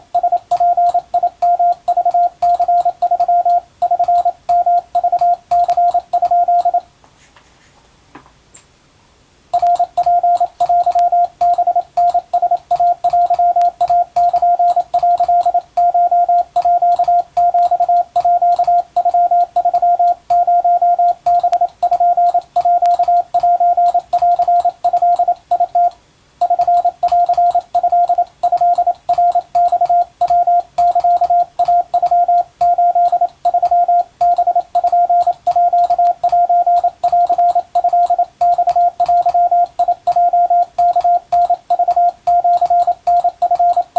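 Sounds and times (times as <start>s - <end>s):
morse code tone: 0.0s - 6.9s, 9.6s - 43.9s.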